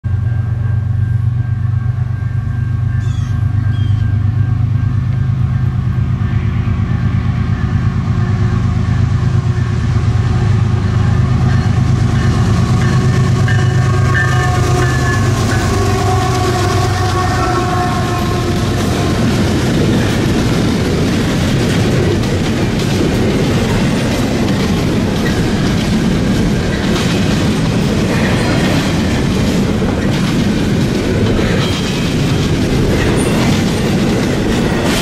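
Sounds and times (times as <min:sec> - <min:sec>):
deep locomotive engine drone: 0:00.0 - 0:35.0
train wheel and rail noise: 0:00.0 - 0:35.0.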